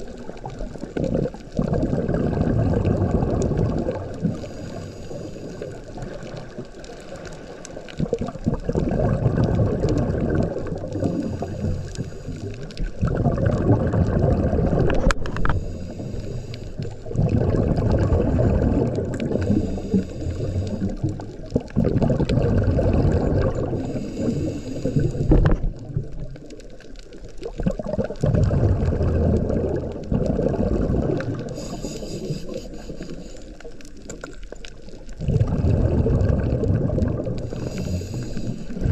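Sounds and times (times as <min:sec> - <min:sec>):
underwater exhaled air bubbling: 0:00.0 - 0:38.9.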